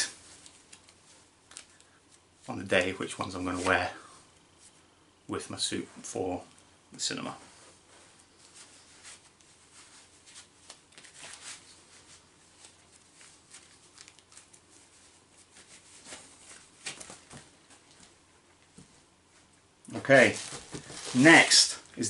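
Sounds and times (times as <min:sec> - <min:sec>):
rustling of handled objects: 0:00.0 - 0:04.9, 0:06.0 - 0:22.0.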